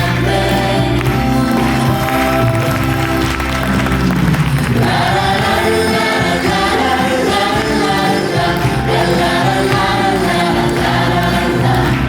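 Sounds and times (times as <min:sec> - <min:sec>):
group of voices singing: 0:00.0 - 0:12.0
live band playing: 0:00.0 - 0:12.0.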